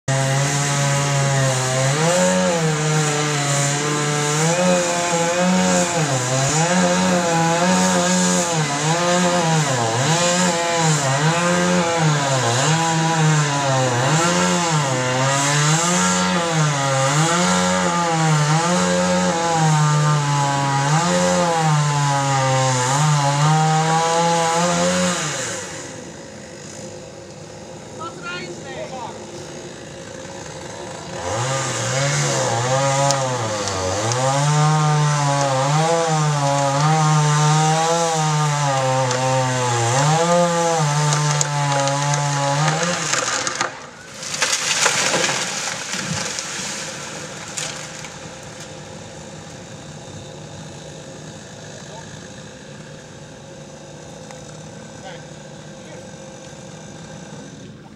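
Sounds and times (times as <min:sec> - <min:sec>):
chainsaw cutting tree trunk: 0:00.0 - 0:57.9.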